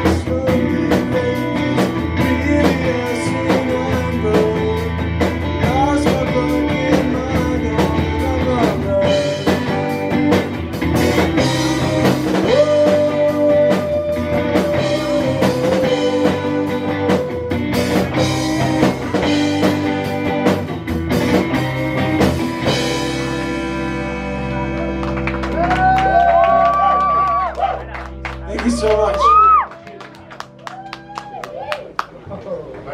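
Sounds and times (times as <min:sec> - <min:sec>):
drum kit: 0:00.0 - 0:31.7
electric guitar: 0:00.0 - 0:32.0.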